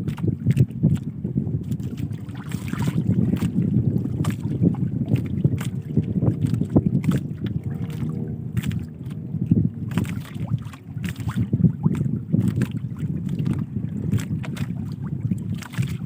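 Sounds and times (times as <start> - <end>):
water slapping boat hull: 0.0 - 16.0
wind rumbling on microphone: 0.0 - 16.0.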